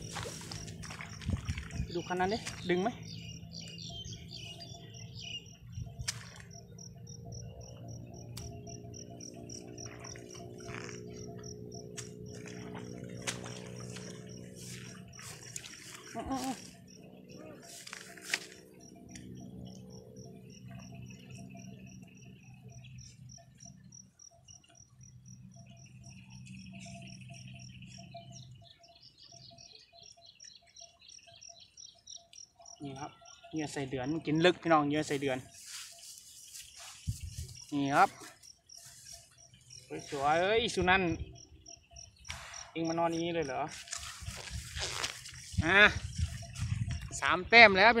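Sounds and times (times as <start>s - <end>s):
insect chirping: 0.0s - 48.0s.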